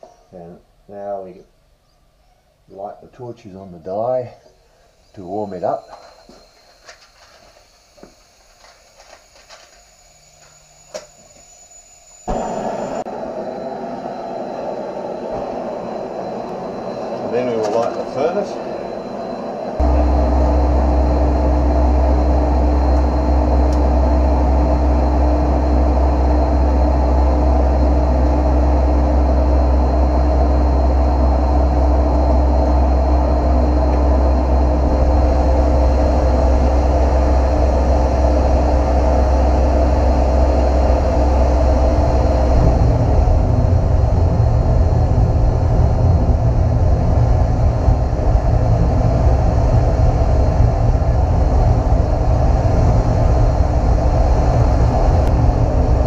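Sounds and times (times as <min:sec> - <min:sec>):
furnace burner roaring: 0:03.9 - 0:56.0.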